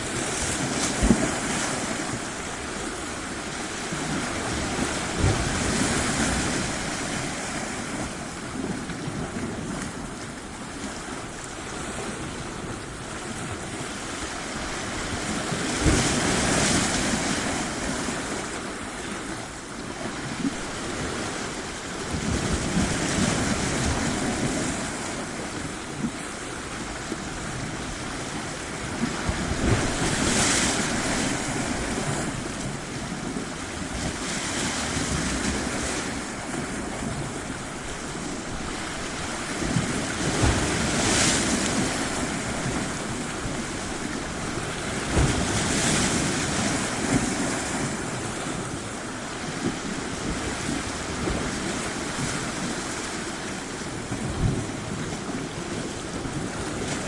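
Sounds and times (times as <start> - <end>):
ocean waves breaking on shore: 0.0 - 57.0
wind on microphone: 0.0 - 57.0.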